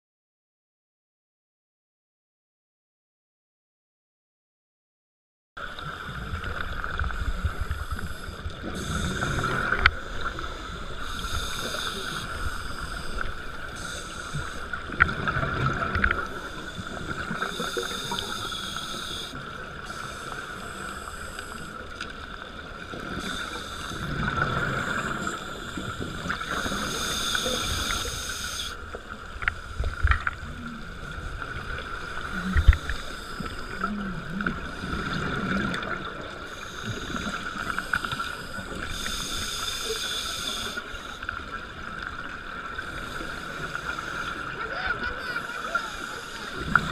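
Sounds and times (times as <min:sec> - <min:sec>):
underwater exhaust bubbles: 0:05.6 - 0:46.9.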